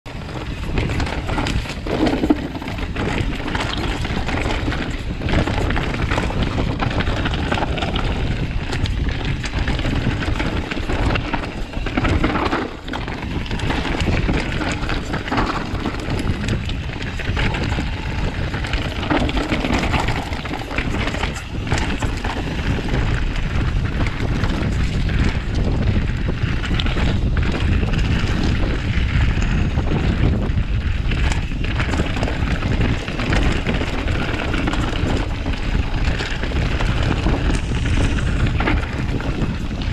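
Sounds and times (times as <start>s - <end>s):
bike rattling: 0.1s - 39.9s
wind buffeting microphone: 0.1s - 39.9s
tyres rolling over stones: 0.2s - 30.5s, 31.1s - 39.9s.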